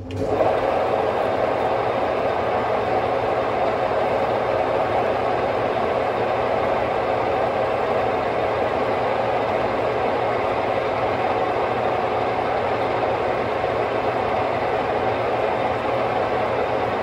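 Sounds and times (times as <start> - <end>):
boring mill machine hum: 0.0 - 17.0.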